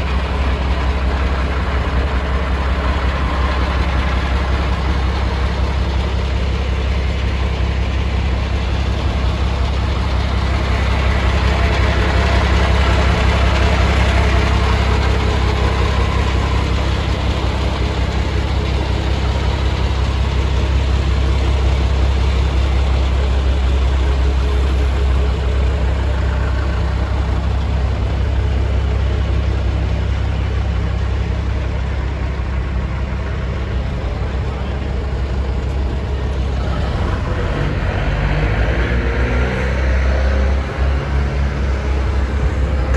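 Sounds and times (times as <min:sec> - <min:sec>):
truck diesel engine idling: 0:00.0 - 0:42.9.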